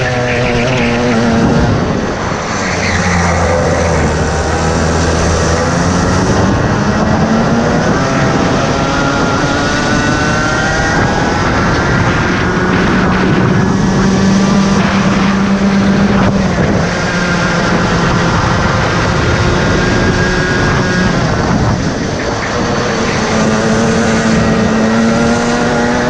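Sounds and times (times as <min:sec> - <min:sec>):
kart engine revving: 0:00.0 - 0:26.0.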